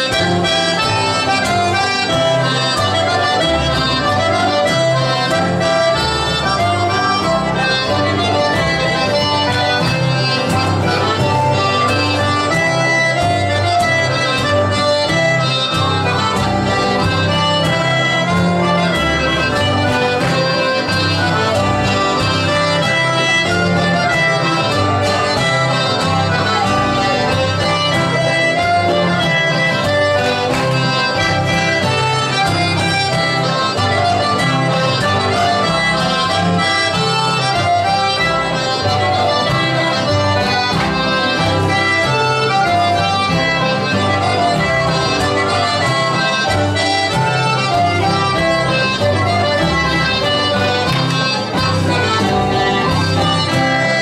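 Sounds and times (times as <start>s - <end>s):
accordions playing dance tune: 0.0s - 54.0s
acoustic guitar accompaniment: 0.0s - 54.0s.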